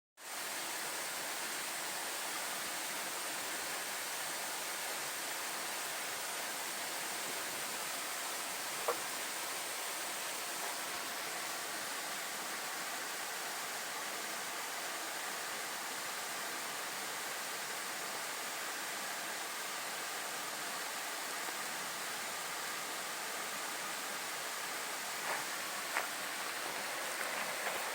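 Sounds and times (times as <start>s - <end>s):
water rushing: 0.2s - 27.9s.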